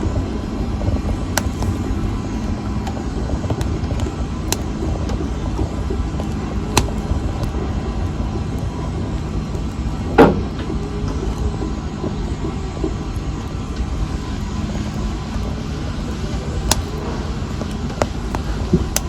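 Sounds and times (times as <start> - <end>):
fire crackling and popping: 0.9 - 19.0.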